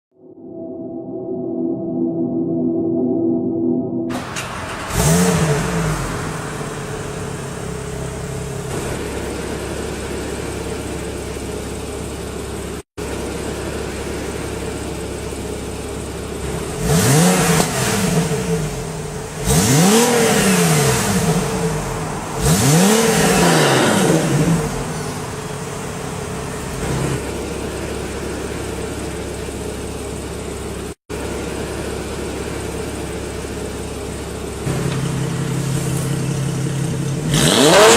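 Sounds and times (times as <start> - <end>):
car engine idling and revving: 4.1 - 37.9.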